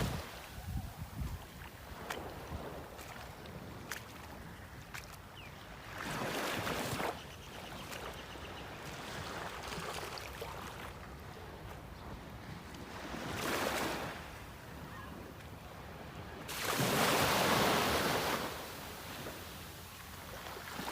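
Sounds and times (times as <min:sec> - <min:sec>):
wind: 0:00.0 - 0:20.9.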